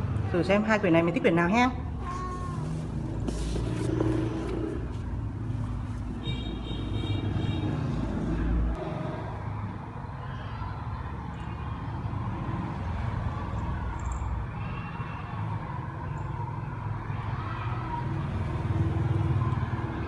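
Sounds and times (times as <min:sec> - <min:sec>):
low traffic rumble: 0:00.0 - 0:20.0.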